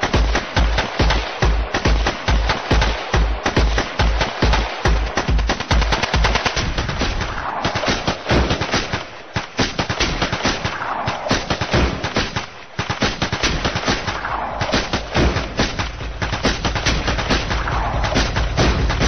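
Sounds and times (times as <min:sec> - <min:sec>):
machine-gun fire: 0:00.0 - 0:19.0.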